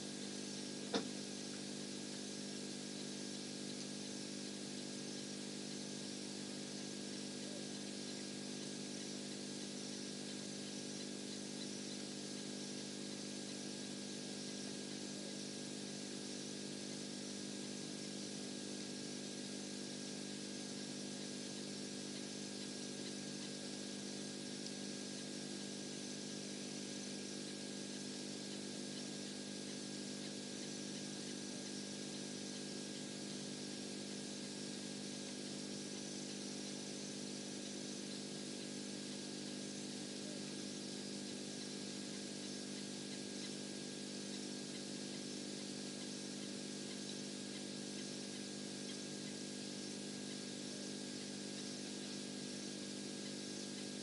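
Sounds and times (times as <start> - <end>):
low machine hum: 0.0 - 52.7.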